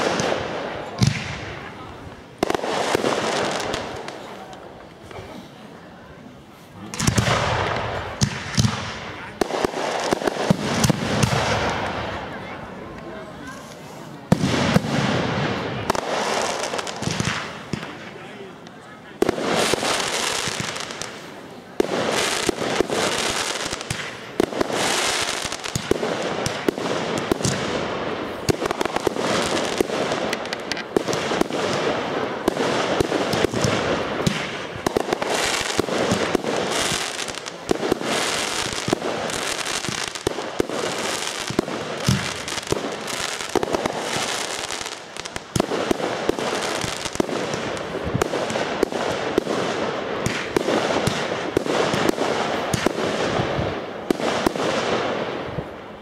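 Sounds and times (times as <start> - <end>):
fireworks launching and bursting: 0.0 - 5.1, 6.7 - 56.0.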